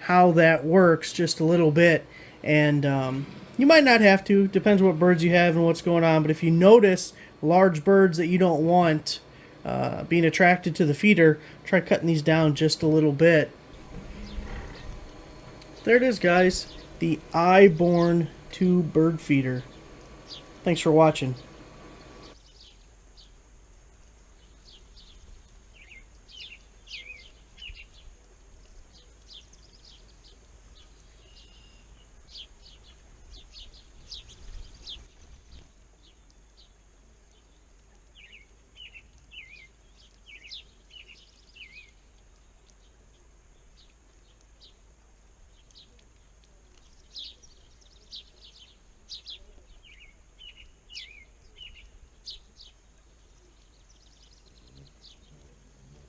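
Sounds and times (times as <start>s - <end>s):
small songbirds chirping: 0.2s - 23.4s, 24.3s - 28.2s, 28.8s - 56.0s.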